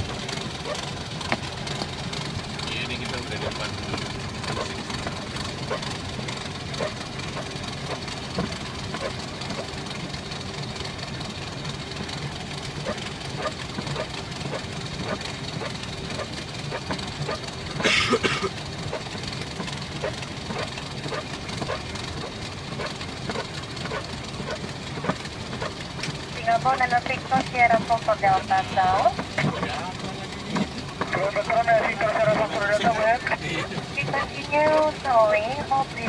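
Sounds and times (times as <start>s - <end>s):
airplane cockpit hum: 0.0s - 36.0s.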